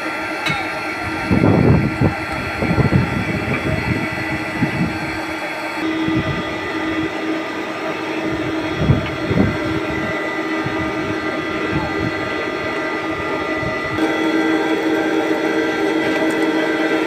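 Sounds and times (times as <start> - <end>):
plate bending machine humming: 0.0 - 17.0.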